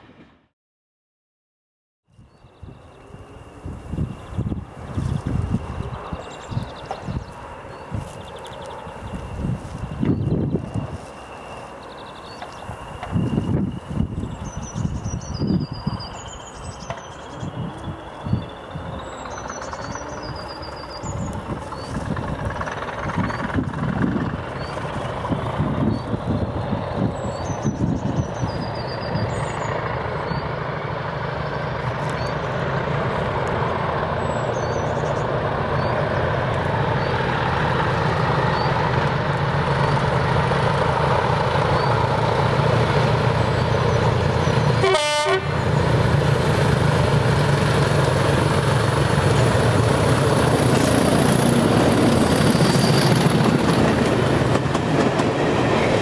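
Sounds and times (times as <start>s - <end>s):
diesel locomotive engine: 0.0s - 0.5s, 2.1s - 56.0s
coaches rolling on rails: 2.8s - 56.0s.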